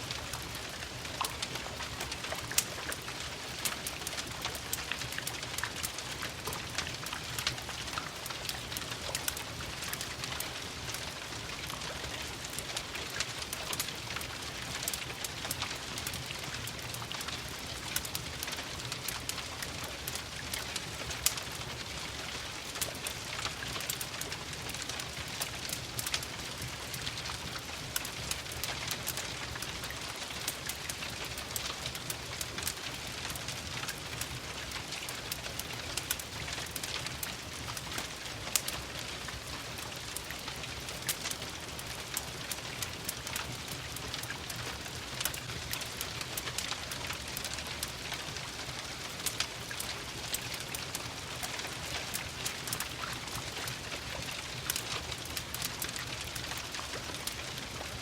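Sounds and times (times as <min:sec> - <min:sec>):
fireplace crackling: 0:00.0 - 0:58.0
rain patter: 0:00.0 - 0:58.0.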